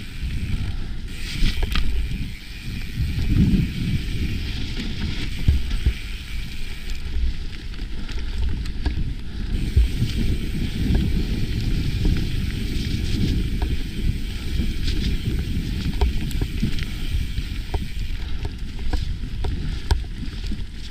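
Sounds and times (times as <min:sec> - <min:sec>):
bike clicks and rattles: 0:00.0 - 0:20.9
bike tyres rolling on dirt: 0:00.0 - 0:20.9
wind buffeting microphone: 0:00.0 - 0:20.9.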